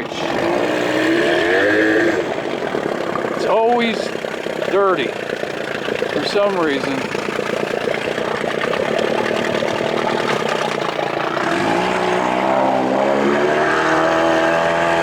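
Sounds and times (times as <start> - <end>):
outboard motor revving: 0.0 - 15.0.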